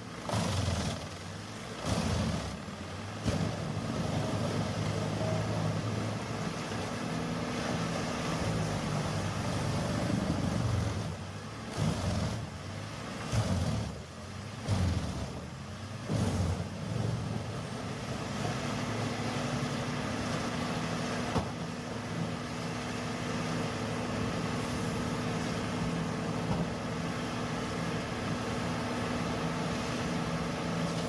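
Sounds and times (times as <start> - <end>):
machine engine running: 0.0 - 31.0.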